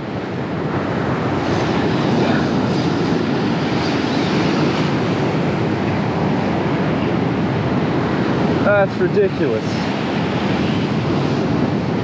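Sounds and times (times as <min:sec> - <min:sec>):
surf breaking on the shore: 0:00.0 - 0:12.0
wind buffeting the microphone: 0:00.0 - 0:12.0.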